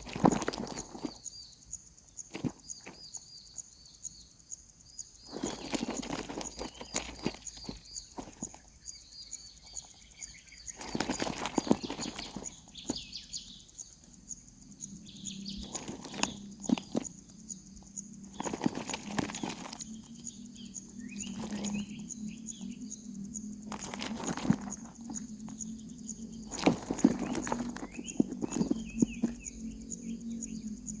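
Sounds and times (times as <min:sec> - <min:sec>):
birds scratching in nest: 0:00.0 - 0:01.4, 0:02.1 - 0:03.2, 0:05.2 - 0:30.6
nestlings chirping: 0:00.0 - 0:31.0.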